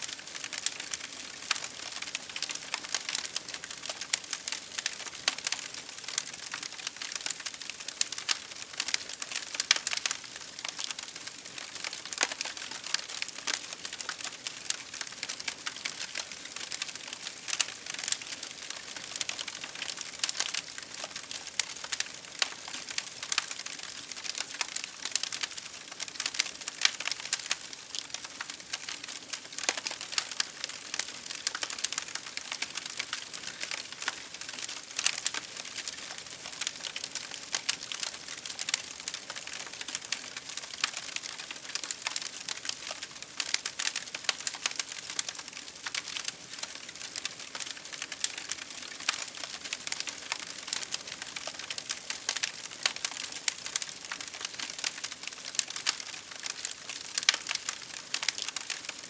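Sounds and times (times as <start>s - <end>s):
fire crackling: 0.1s - 59.0s.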